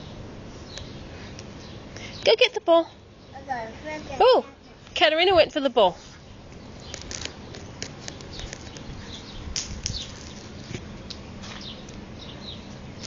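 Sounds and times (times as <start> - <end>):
low background hum: 0.0 - 13.0
small birds chirping: 0.0 - 13.0.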